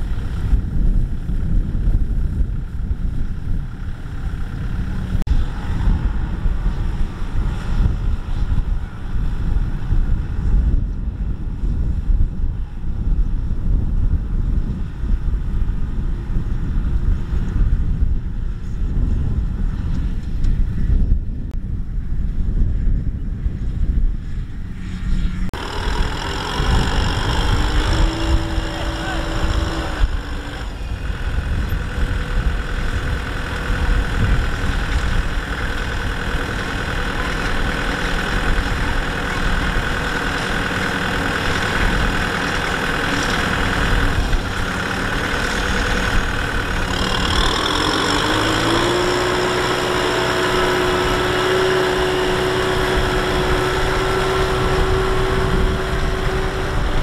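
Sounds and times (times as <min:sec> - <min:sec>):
combine harvester engine: 0:00.0 - 0:57.0.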